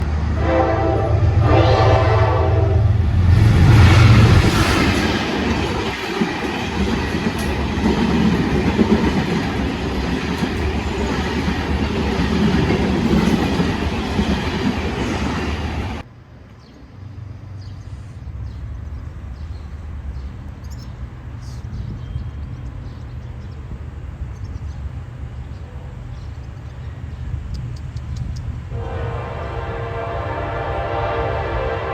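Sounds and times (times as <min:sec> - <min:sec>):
passenger train rushing past: 0:00.0 - 0:31.9.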